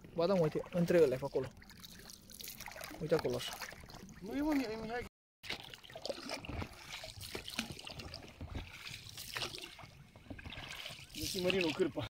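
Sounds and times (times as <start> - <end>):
oars splashing in water: 0.0 - 12.0
water dripping off oar blades: 0.0 - 12.0.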